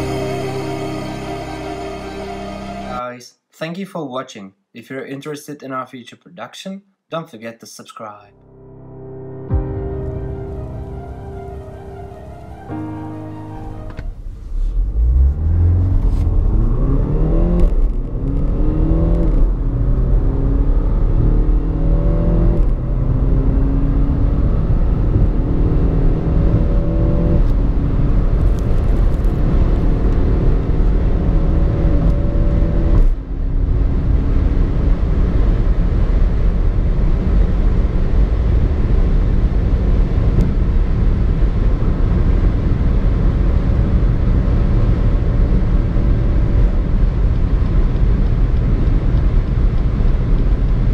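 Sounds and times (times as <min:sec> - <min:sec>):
diesel engine accelerating: 0:00.0 - 0:03.0, 0:08.5 - 0:50.9.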